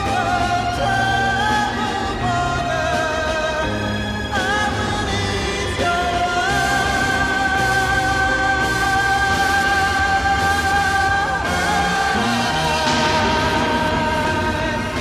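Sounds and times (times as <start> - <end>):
steady musical accompaniment: 0.0 - 15.0.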